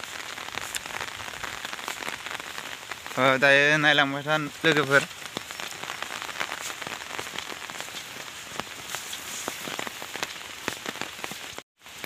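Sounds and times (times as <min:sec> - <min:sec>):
raindrops ticking on umbrella: 0:00.0 - 0:12.0
steady rain: 0:00.0 - 0:12.0.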